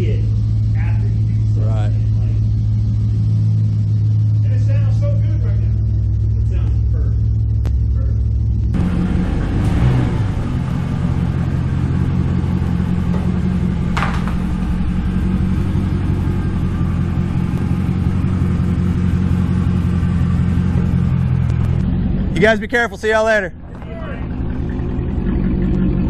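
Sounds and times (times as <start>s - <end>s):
car engine idling open exhaust: 0.0s - 26.0s.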